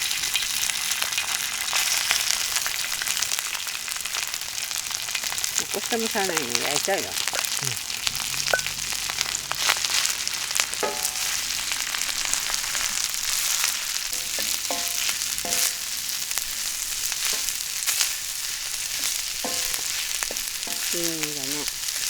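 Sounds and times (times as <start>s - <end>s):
steak sizzling in a pan: 0.0s - 22.0s.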